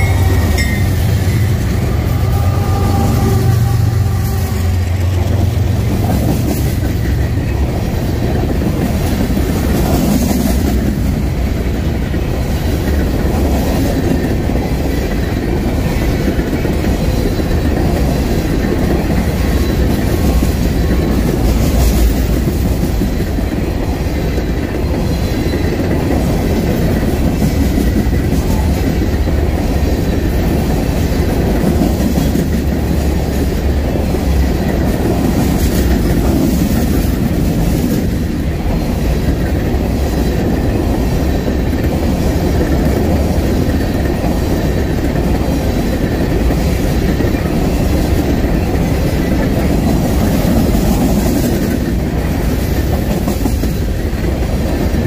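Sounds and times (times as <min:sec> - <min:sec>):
freight train wheels rumbling and rattling: 0:00.0 - 0:55.0.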